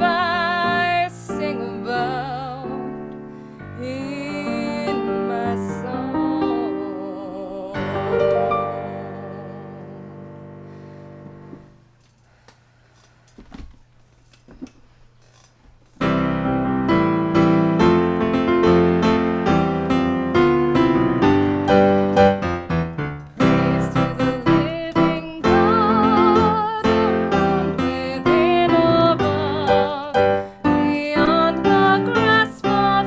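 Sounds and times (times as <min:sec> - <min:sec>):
piano music: 0:00.0 - 0:11.7, 0:16.0 - 0:33.0.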